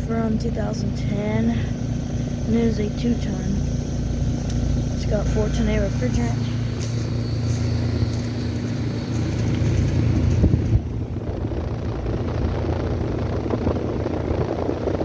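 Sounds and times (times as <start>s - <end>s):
compressor humming: 0.0s - 15.0s
fan rushing: 0.0s - 15.0s.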